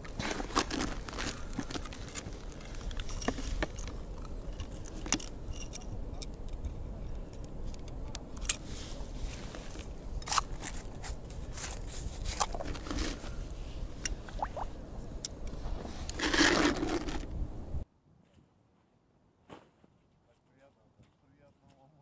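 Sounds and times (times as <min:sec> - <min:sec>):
wind rumble on microphone: 0:00.0 - 0:17.9.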